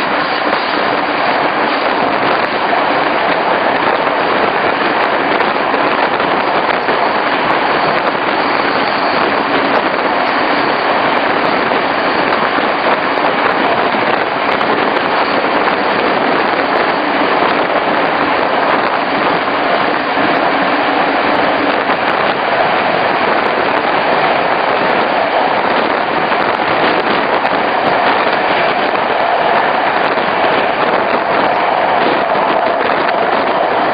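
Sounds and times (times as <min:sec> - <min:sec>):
train wheels rushing on rails: 0:00.0 - 0:33.9.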